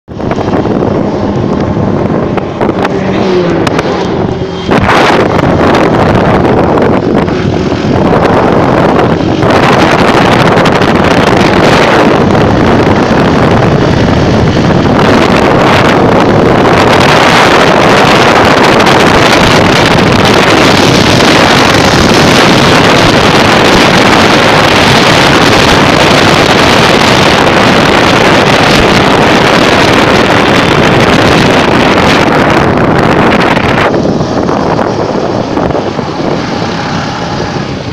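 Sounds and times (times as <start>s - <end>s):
wind rushing over microphone: 0.0s - 37.9s
motorcycle engine running: 0.1s - 37.9s.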